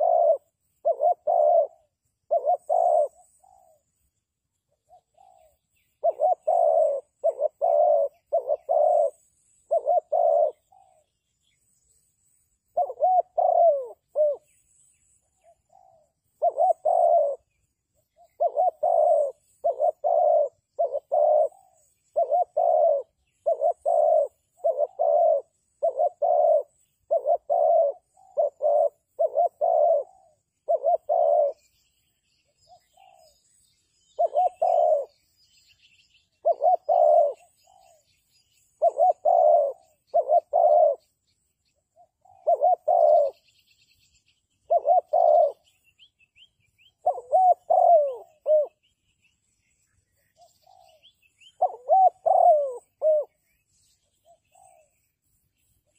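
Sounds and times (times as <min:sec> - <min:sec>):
dove cooing: 0:00.0 - 0:31.9, 0:32.6 - 0:43.6, 0:44.6 - 0:49.0, 0:50.2 - 0:55.9
faint high chirping: 0:00.0 - 0:55.9.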